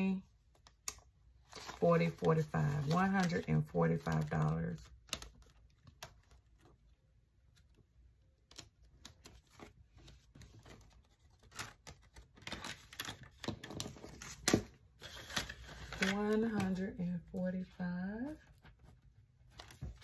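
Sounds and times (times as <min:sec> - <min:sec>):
paper and plastic rustling: 0:01.4 - 0:07.8, 0:08.5 - 0:17.0, 0:18.2 - 0:20.0.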